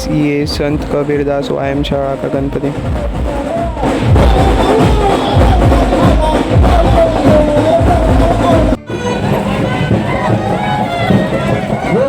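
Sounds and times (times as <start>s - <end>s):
heavy drum beats: 0.0s - 12.0s.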